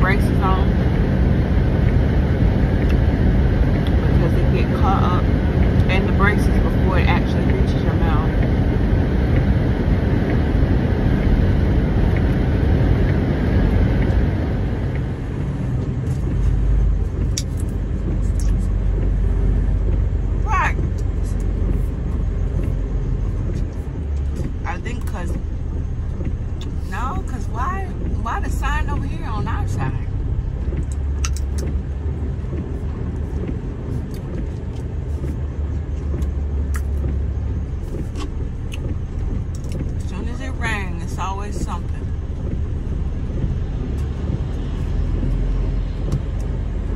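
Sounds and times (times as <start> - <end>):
truck engine and road rumble: 0.0 - 46.9.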